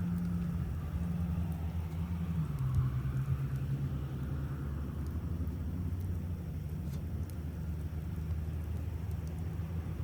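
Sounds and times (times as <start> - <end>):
bonfire crackling: 0.0 - 10.0.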